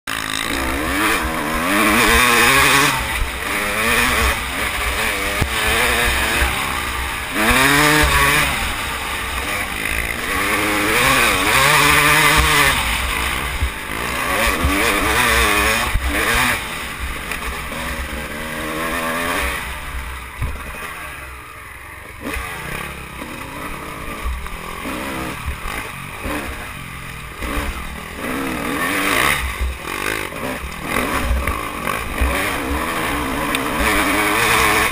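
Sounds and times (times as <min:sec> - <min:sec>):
race engine revving: 0:00.1 - 0:21.0, 0:22.2 - 0:34.9.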